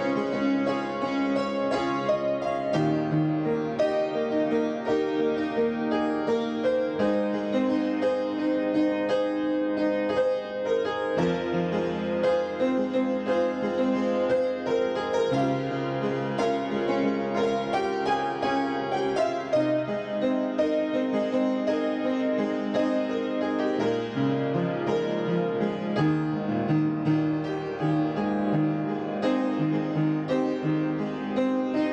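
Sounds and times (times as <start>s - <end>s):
gentle instrumental keyboard music: 0.0s - 31.9s.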